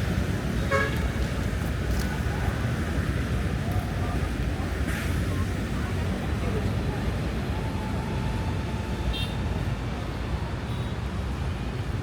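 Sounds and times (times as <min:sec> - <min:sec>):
traffic rumble: 0:00.0 - 0:10.6.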